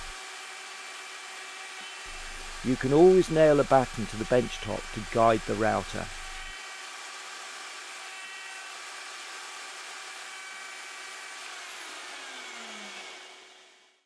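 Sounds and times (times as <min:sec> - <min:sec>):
electric router whining: 0:00.0 - 0:13.7.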